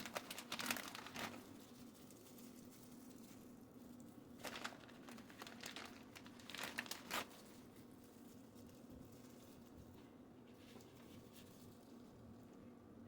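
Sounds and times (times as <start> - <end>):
faint crinkling rustles: 0.0 - 13.0.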